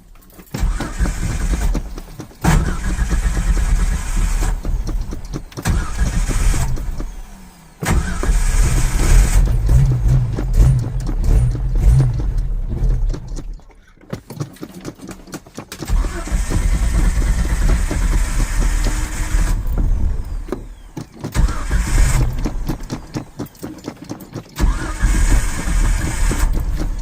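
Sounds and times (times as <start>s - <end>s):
starter cranking engine: 0.0s - 27.0s.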